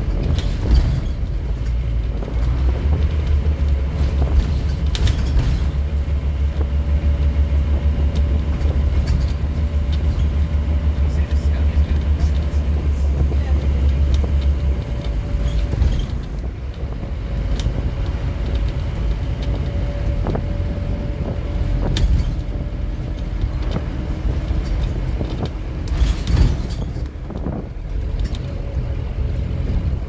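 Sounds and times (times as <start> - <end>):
bus engine and road rumble: 0.0 - 30.0
short rattles and knocks: 0.0 - 30.0.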